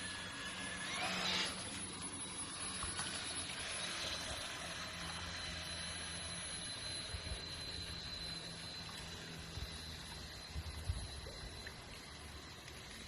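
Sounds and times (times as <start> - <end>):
model boat motor whine: 0.0 - 13.0.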